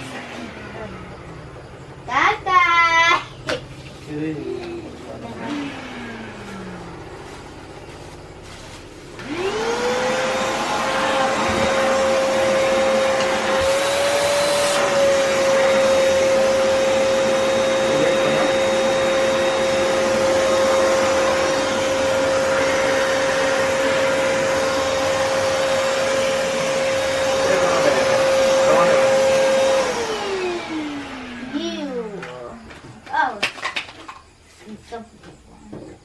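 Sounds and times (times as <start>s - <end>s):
handheld vacuum cleaner running: 0.0s - 34.2s.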